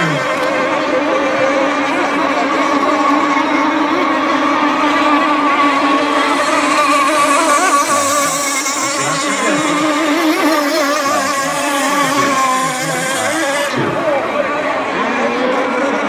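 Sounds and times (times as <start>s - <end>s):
model boat engines whining: 0.0s - 16.0s.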